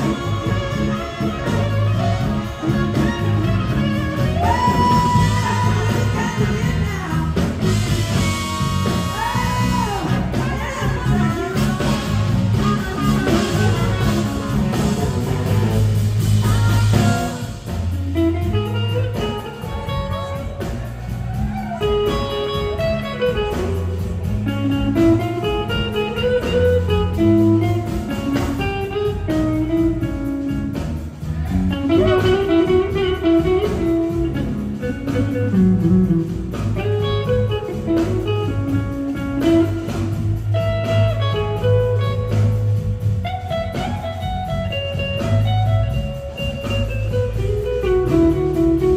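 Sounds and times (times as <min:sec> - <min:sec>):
bass guitar: 0:00.0 - 0:48.9
drums: 0:00.0 - 0:48.9
electric guitar lead with bends: 0:00.0 - 0:48.9.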